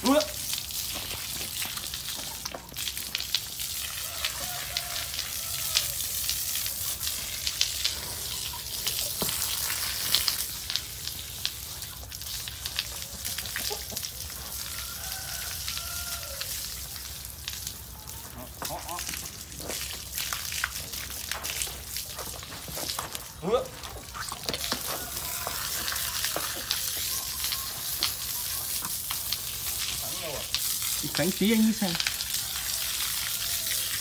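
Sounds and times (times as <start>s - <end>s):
hose water spraying and splashing: 0.0s - 34.0s.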